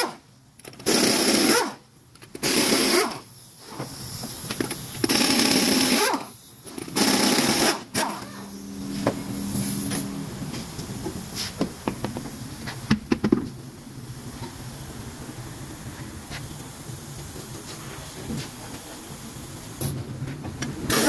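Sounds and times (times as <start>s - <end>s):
steady hiss: 2.5s - 21.0s.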